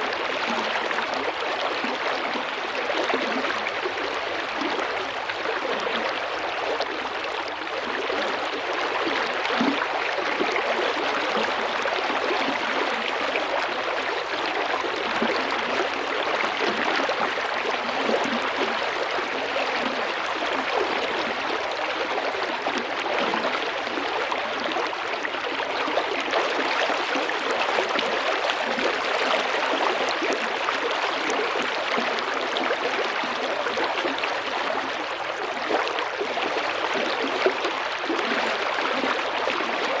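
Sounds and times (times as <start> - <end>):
river babbling over stones: 0.0 - 40.0.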